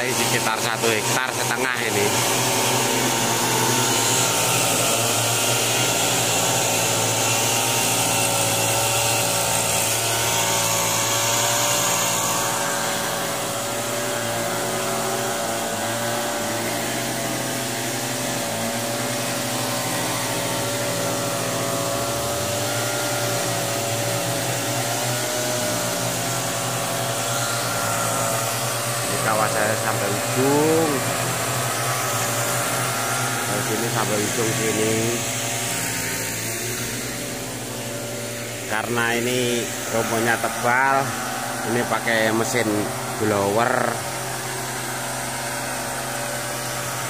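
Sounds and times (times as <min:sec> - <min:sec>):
mist blower engine running: 0:00.0 - 0:47.0.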